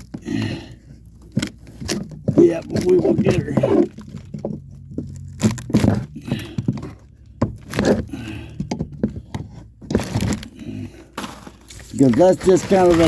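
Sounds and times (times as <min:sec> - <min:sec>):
wood knocking and cracking: 0:00.0 - 0:13.0.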